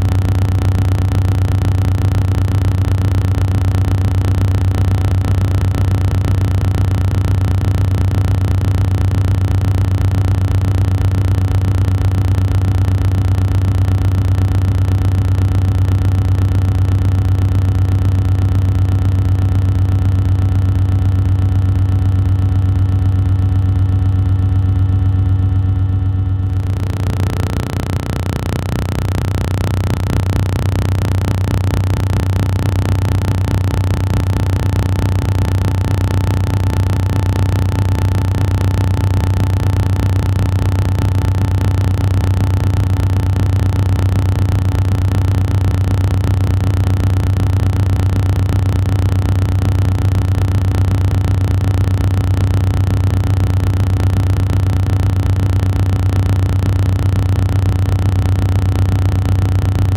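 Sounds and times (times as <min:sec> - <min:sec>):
loud low droning hum: 0:00.0 - 0:59.9.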